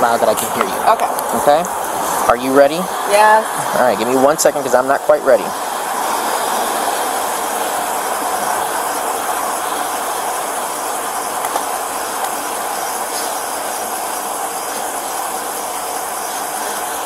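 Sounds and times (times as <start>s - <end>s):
roadside background hiss: 0.0s - 17.0s.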